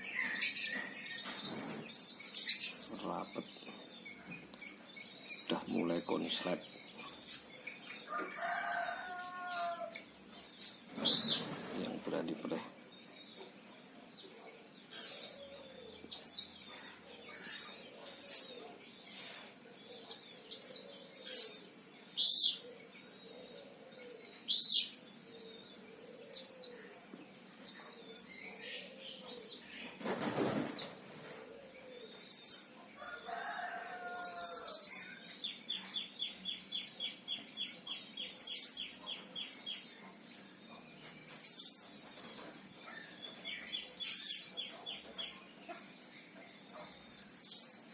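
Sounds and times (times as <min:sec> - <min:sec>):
songbird singing: 0:00.0 - 0:47.9.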